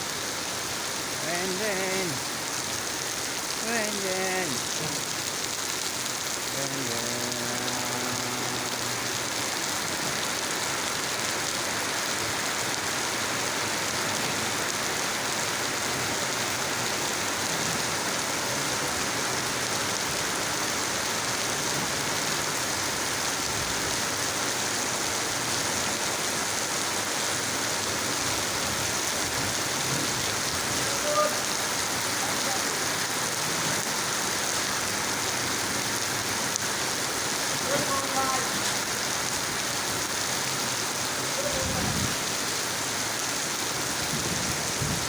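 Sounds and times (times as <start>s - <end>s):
steady rainfall: 0.0s - 45.0s.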